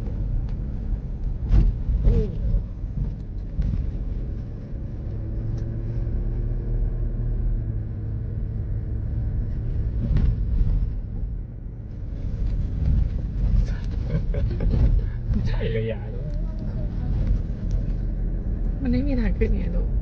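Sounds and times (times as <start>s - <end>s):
car engine and road rumble: 0.0s - 20.0s
faint engine hum: 0.0s - 20.0s.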